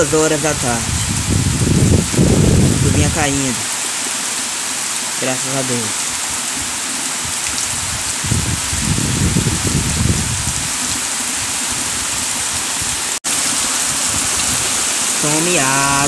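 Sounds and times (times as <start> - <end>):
rain falling on trees: 0.0 - 16.0.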